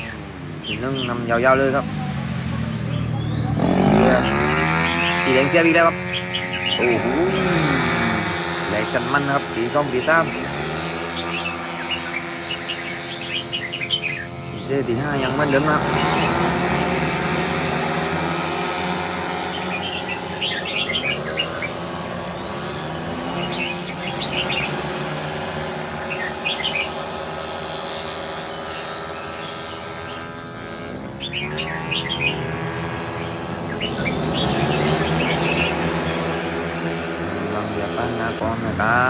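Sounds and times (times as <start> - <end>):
bird chirps: 0.0 - 38.4
racing car engines droning: 0.0 - 39.0.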